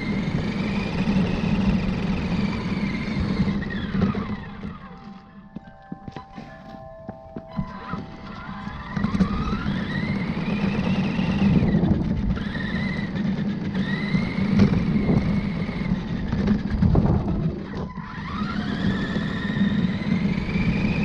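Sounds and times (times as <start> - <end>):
toy truck motor whining: 0.0 - 5.2, 7.6 - 21.0
rumble of wheels and gears: 0.0 - 21.0.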